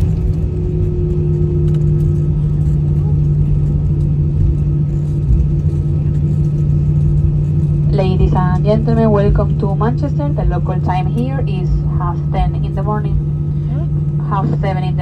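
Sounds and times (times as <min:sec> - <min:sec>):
aircraft engine hum: 0:00.0 - 0:15.0
low rumble of airframe and wheels: 0:00.0 - 0:15.0.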